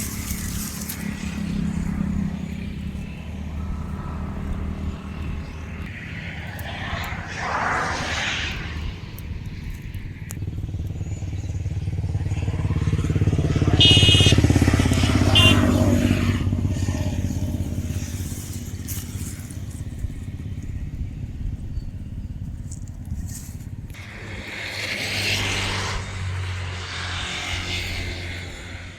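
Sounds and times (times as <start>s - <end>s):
motorcycle driving past: 0.0s - 28.9s.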